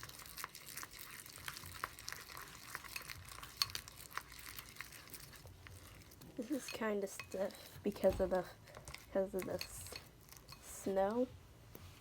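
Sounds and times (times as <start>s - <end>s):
stiff mixture stirred in a bowl: 0.0s - 12.0s.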